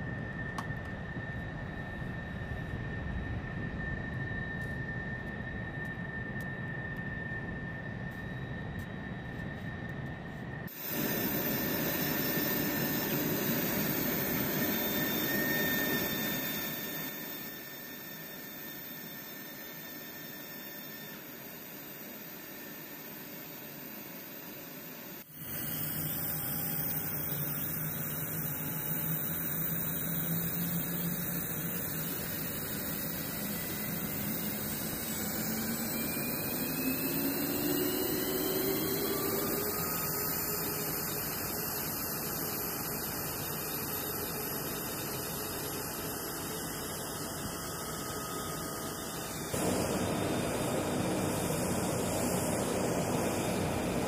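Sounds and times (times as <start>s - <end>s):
jet engine noise: 0.0s - 54.0s
rising whine: 0.0s - 54.0s.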